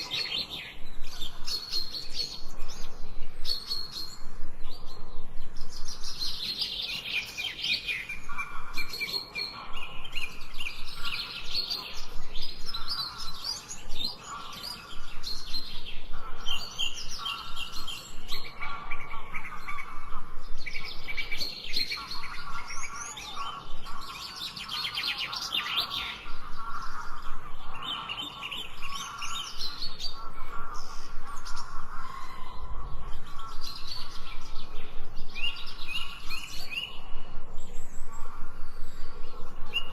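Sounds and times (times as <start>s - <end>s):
birds chirping: 0.0s - 39.9s
lower bird calls: 0.0s - 39.9s.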